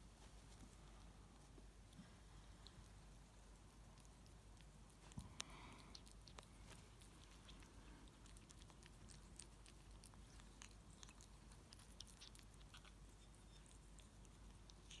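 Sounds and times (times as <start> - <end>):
ferret licking and chewing: 0.5 - 15.0.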